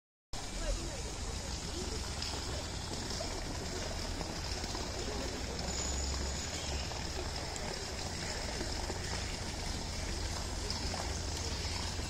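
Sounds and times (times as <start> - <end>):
water pouring into a pool: 0.4 - 12.0.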